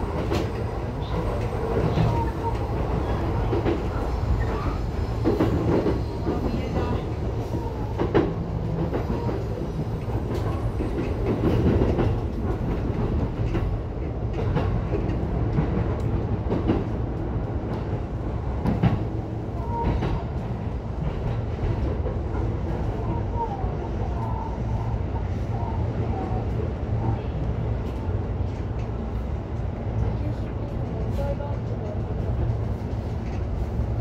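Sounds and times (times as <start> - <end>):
train interior rumble: 0.0 - 34.0.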